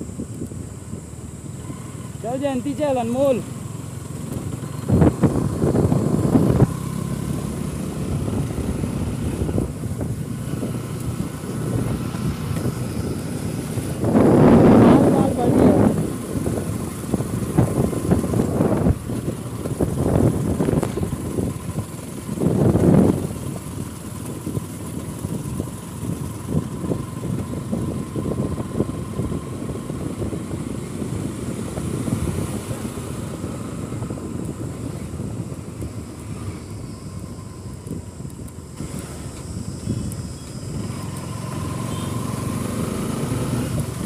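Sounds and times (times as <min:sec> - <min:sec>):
motorcycle engine running: 0:00.0 - 0:44.0
road noise: 0:00.0 - 0:44.0.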